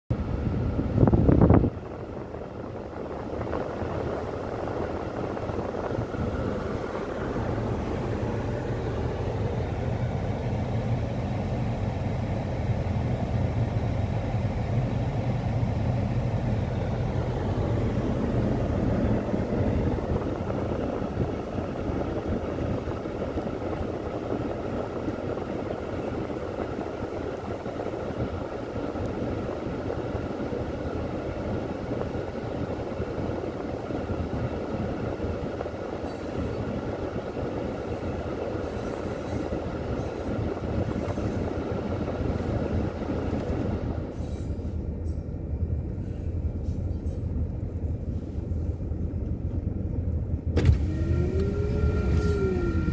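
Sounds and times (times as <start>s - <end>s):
deep low rumble: 0.1s - 28.5s, 38.6s - 52.9s.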